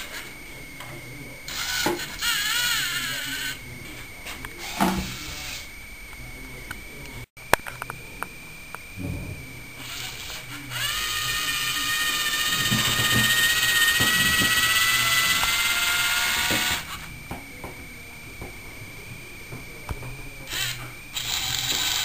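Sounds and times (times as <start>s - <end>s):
small electric motor whining: 0.0s - 22.0s.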